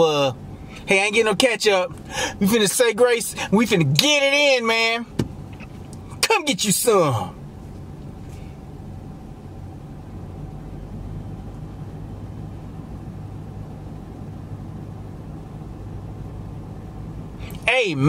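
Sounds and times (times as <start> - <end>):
car idling hum: 0.0 - 18.0.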